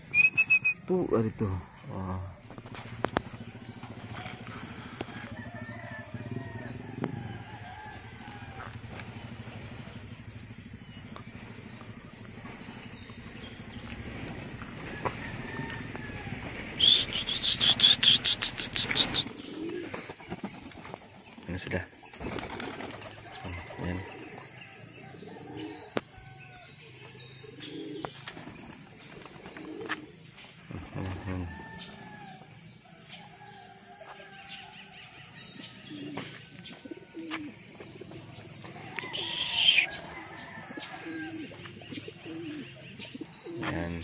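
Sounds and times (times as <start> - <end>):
small birds chirping: 0.0 - 44.0
pigeons cooing: 1.8 - 21.4, 22.1 - 33.6, 35.6 - 44.0.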